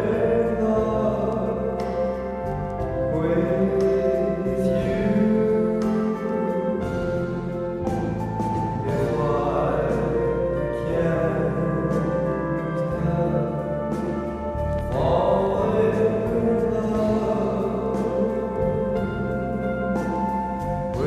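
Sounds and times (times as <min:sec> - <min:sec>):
muffled old song with singing: 0:00.0 - 0:21.0.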